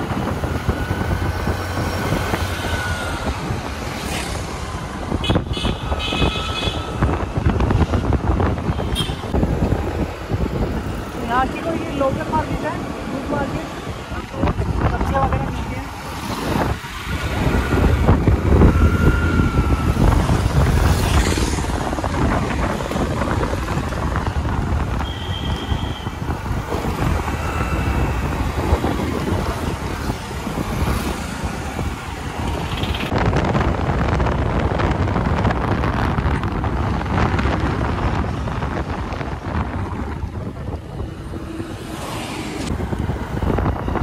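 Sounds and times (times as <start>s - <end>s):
passing traffic: 0.0s - 44.0s
wind buffeting microphone: 0.0s - 44.0s.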